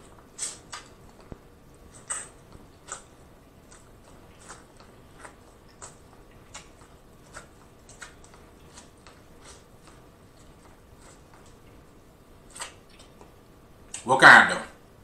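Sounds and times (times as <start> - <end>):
corn on the cob being chewed: 0.0 - 14.0.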